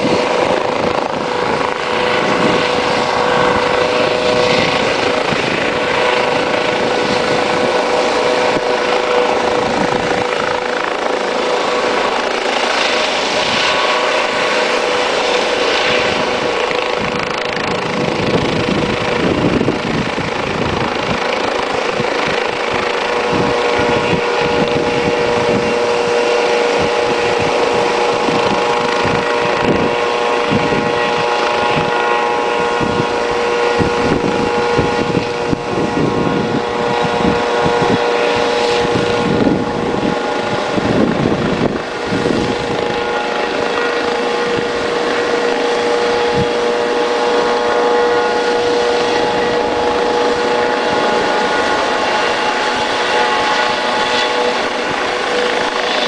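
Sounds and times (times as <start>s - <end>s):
helicopter turbine whine: 0.0s - 56.0s.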